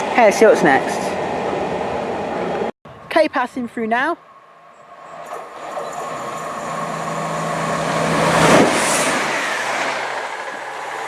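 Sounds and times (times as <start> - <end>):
diesel train passing: 0.0 - 3.0, 4.1 - 11.0.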